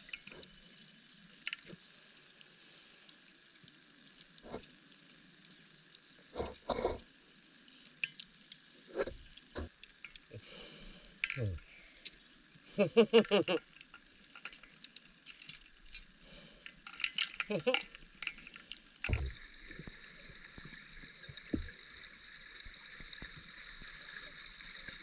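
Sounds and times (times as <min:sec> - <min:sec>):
underwater fizzing crackle: 0:00.0 - 0:25.0.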